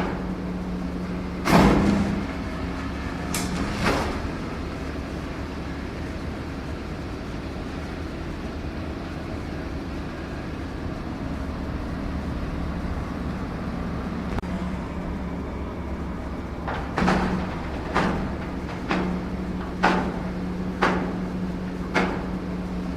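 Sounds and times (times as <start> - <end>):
construction machine engine drone: 0.0 - 22.9.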